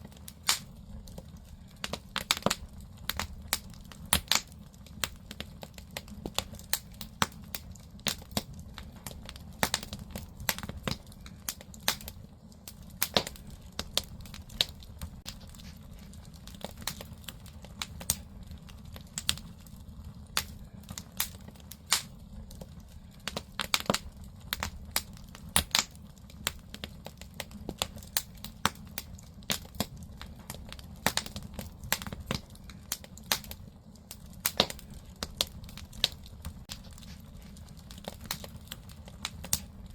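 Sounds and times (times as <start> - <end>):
burning logs crackling and popping: 0.0 - 39.9
low rumble of fire: 0.0 - 39.9.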